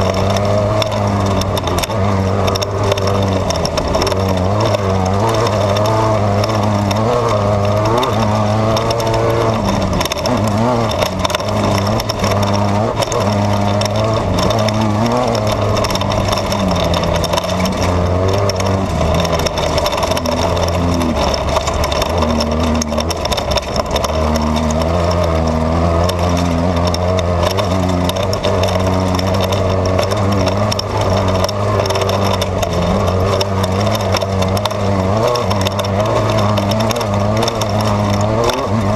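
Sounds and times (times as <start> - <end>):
race car engine running hard: 0.0 - 38.9
rattle and clatter over rough terrain: 0.0 - 38.9.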